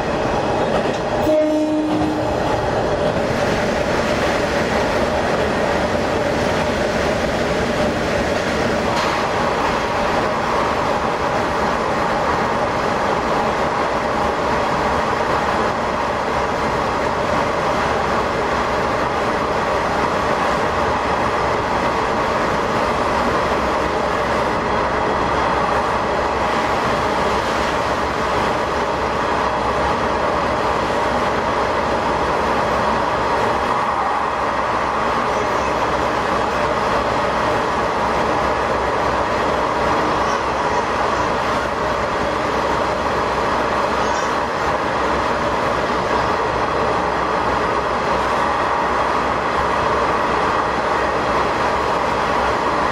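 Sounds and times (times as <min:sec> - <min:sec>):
railcar engine and wheels rumbling: 0:00.0 - 0:52.9.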